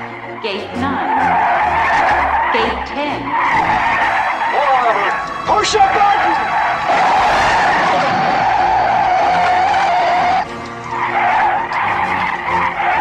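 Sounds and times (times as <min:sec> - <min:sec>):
tyres screeching on runway: 0:01.1 - 0:13.0.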